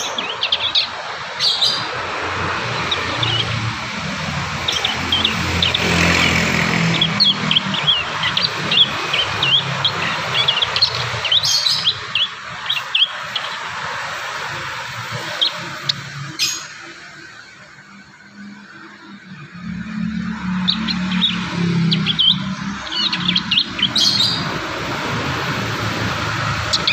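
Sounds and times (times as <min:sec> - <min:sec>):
bird chirps and twitters: 0:00.0 - 0:26.9.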